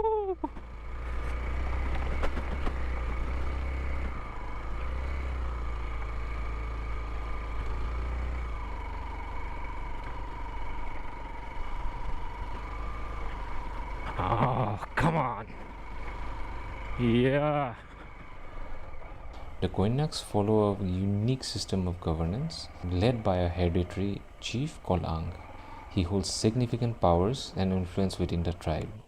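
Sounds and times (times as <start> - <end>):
motorcycle engine running: 0.1 - 29.0.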